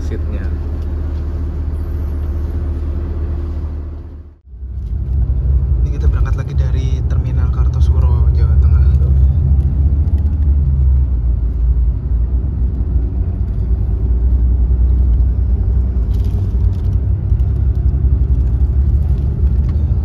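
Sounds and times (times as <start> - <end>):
bus engine rumble: 0.0 - 20.0
road noise: 0.0 - 20.0.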